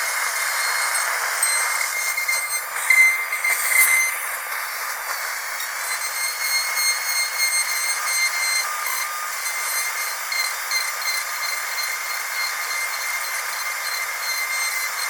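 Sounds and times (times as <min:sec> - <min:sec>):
dental drill whining: 0:00.0 - 0:15.0.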